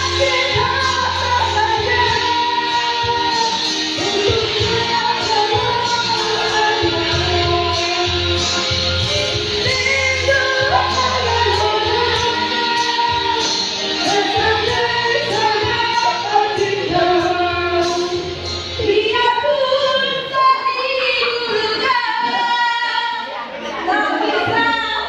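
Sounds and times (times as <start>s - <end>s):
backing music with steady beat: 0.0s - 25.0s
woman singing: 0.0s - 25.0s.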